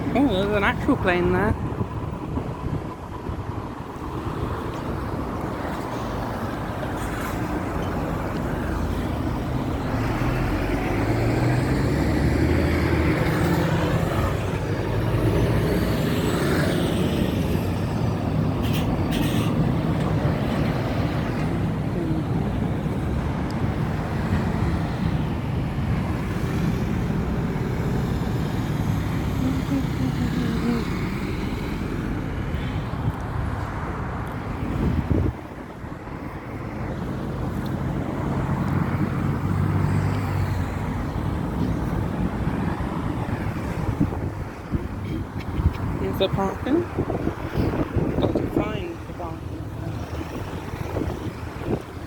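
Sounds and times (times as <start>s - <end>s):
car road noise: 0.0s - 52.0s.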